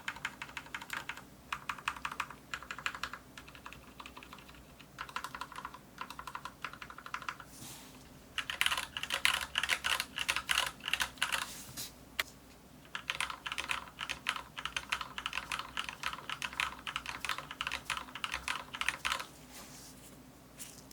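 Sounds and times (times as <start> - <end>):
mechanical keyboard typing: 0.0 - 7.5, 8.4 - 11.5, 12.9 - 19.3.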